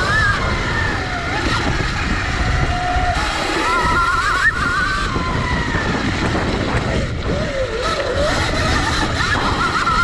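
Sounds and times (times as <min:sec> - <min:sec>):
electric motorbike motor whining: 0:00.0 - 0:10.0
rumble of riding dirt trail: 0:00.0 - 0:10.0
wind noise on microphone: 0:00.0 - 0:10.0.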